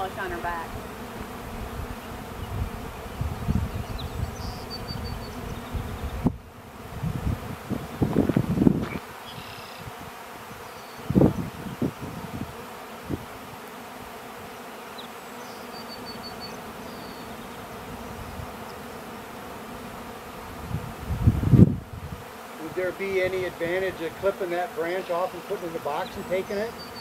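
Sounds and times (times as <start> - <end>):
bee swarm buzzing: 0.0 - 27.0.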